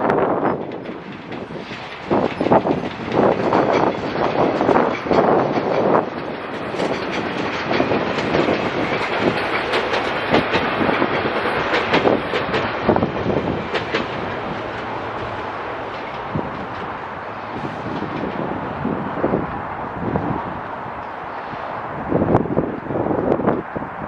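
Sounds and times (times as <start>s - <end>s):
wheels clicking over rail joints: 0.0s - 21.5s
commuter train passing: 0.0s - 24.0s.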